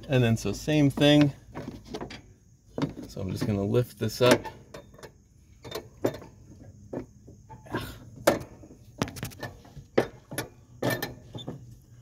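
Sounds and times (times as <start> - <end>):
handling knocks and clicks: 0.0 - 11.8.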